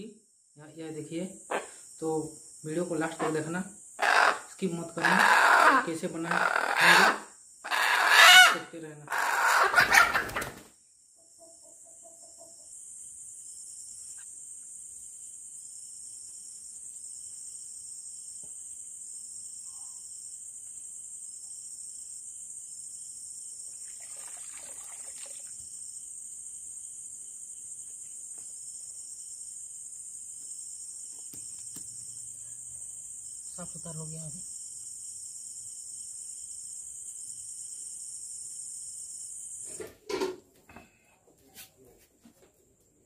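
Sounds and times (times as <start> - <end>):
pulsing cricket chirp: 0.0 - 41.1
crickets trilling: 0.0 - 43.0.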